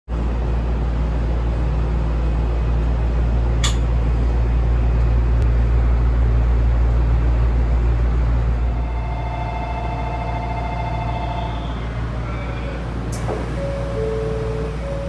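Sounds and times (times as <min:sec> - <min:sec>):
monorail rumble from inside cabin: 0:00.1 - 0:15.0.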